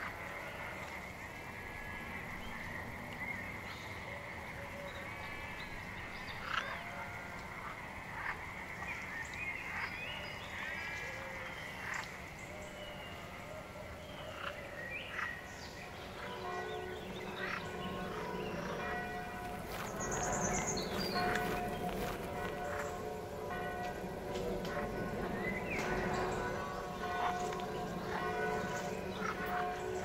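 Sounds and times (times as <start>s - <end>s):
frogs croaking: 0.0s - 30.0s.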